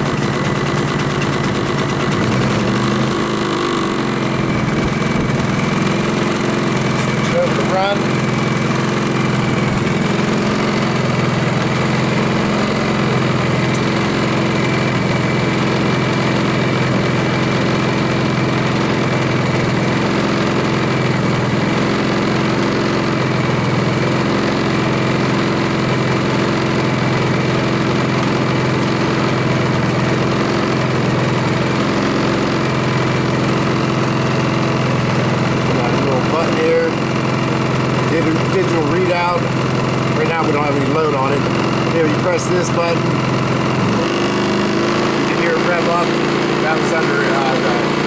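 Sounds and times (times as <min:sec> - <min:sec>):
generator idling: 0:00.0 - 0:48.0.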